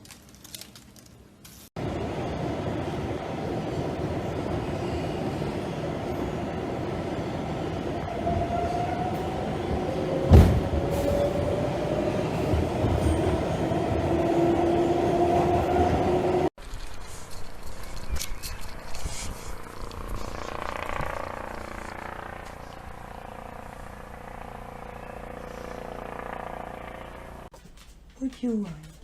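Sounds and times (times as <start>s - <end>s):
moving vehicle rumble: 1.7s - 27.5s.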